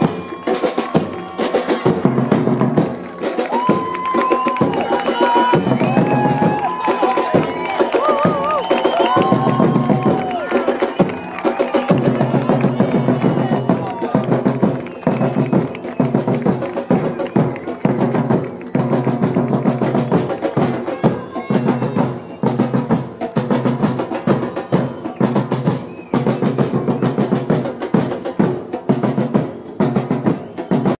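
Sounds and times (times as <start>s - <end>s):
surdo drums beaten with sticks: 0.0s - 31.0s.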